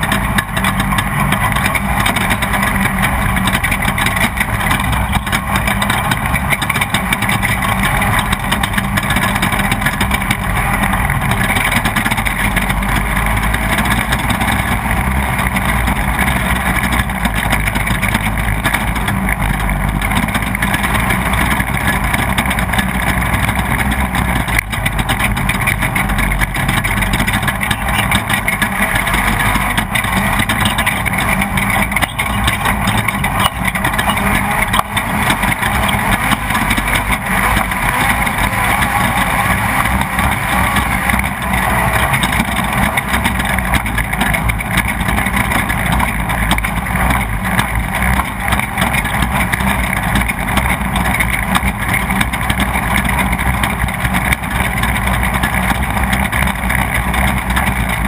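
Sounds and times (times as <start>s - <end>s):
race vehicle engine running: 0.0s - 58.0s
steady rush of noise: 0.0s - 58.0s.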